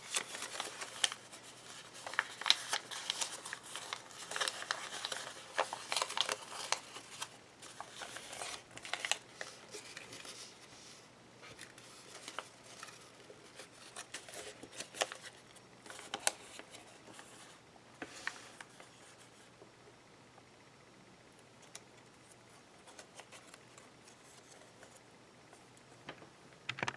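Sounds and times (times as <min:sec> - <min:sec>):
paper rustling and crinkling: 0:00.0 - 0:19.4, 0:22.2 - 0:25.0.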